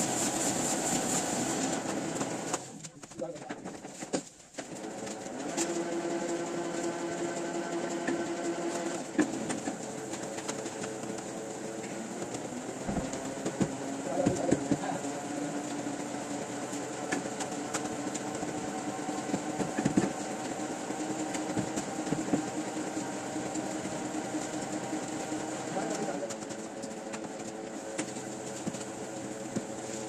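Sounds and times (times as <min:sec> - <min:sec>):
printing press humming: 0:04.7 - 0:30.0.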